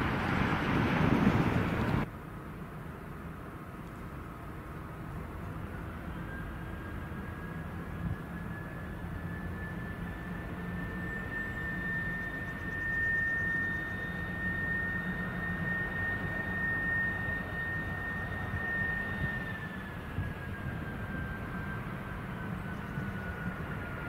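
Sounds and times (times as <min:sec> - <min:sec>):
train high whine: 0:00.0 - 0:02.1, 0:04.9 - 0:24.0
train low rumble: 0:00.0 - 0:24.0.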